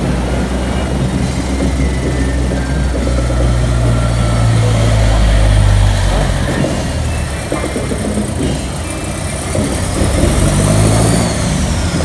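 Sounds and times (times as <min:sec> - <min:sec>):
vehicles passing by: 0:00.0 - 0:12.0.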